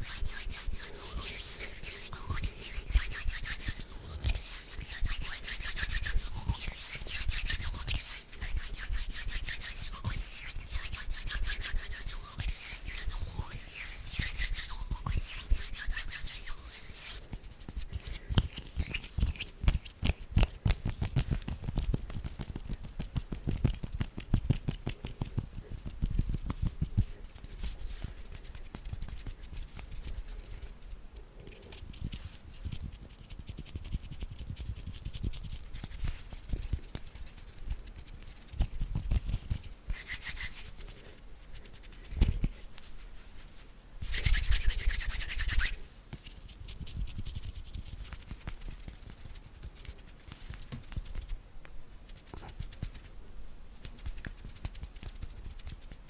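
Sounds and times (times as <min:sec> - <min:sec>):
hands rubbing together: 0:00.0 - 0:30.9, 0:31.6 - 0:53.2.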